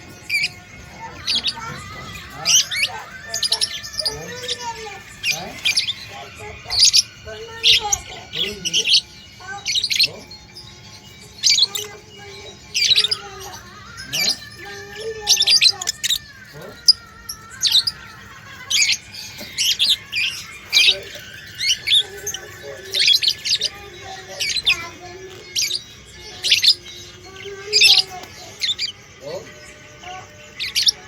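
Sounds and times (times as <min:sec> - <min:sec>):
budgerigars chirping and squawking: 0:00.0 - 0:31.0.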